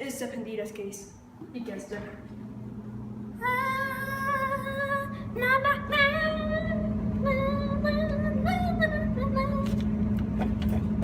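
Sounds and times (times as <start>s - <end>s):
microwave oven humming: 1.2s - 11.0s.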